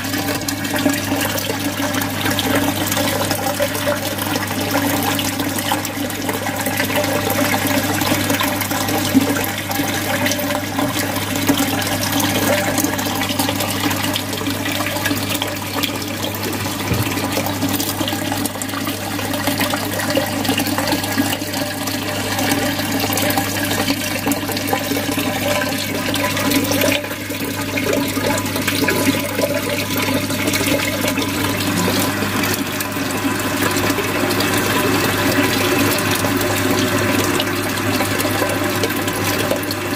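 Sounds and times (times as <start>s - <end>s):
water splashing into tank: 0.0s - 39.9s.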